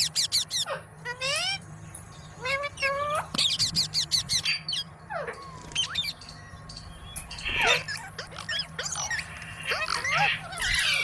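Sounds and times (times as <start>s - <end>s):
parrot whistling and chirping: 0.0s - 1.6s, 2.4s - 11.0s.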